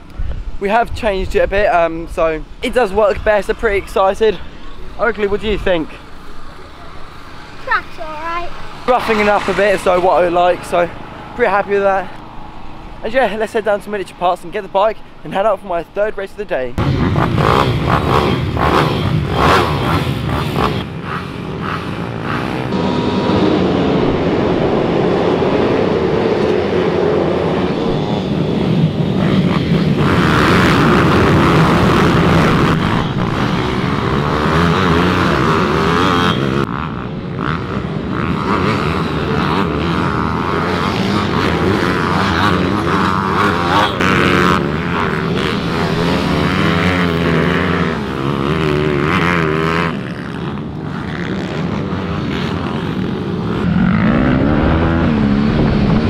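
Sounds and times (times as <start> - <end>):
minibike engines revving: 2.5 - 15.8, 16.8 - 56.0.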